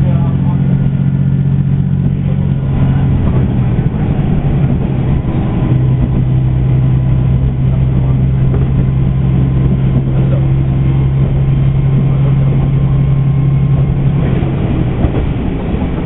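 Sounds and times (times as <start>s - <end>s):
railcar engine droning: 0.0s - 16.0s.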